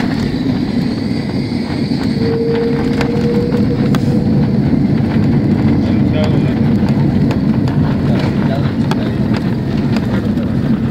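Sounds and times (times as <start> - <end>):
jet engine and wheel rumble: 0.0 - 10.9
steady whine: 0.0 - 10.9.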